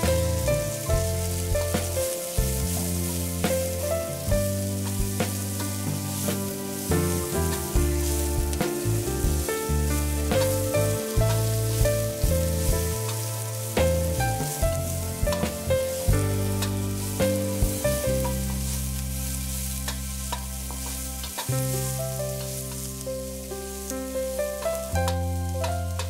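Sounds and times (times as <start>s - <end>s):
wooden spatula stirring: 0.0s - 23.4s
instrumental background music: 0.0s - 26.0s
onions sizzling in hot oil: 0.0s - 26.0s.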